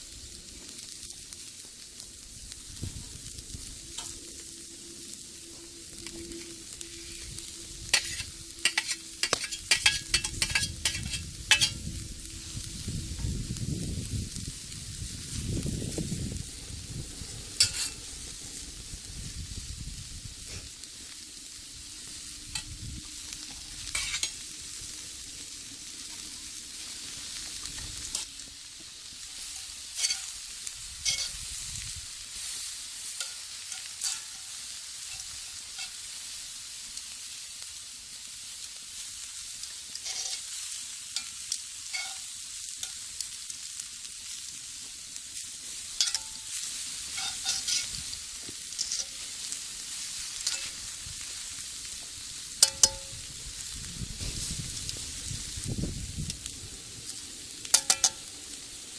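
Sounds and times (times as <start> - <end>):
food sizzling in a skillet: 0.0 - 58.9.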